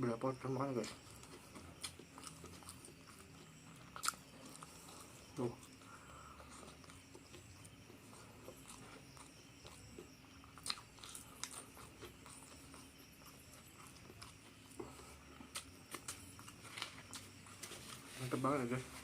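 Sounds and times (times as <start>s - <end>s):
chewing: 0.6s - 18.2s.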